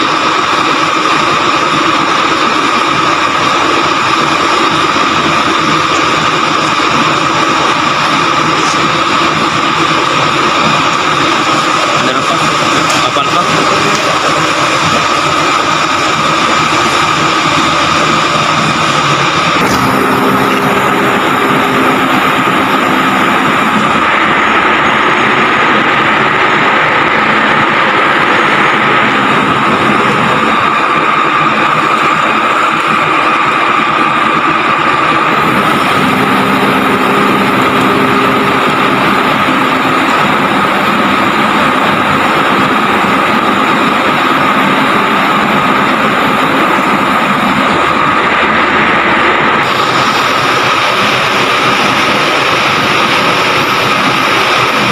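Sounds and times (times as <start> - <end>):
high-pitched hum: 0.0 - 54.9
loud machinery noise: 0.0 - 54.9
truck engine idling: 0.0 - 54.9.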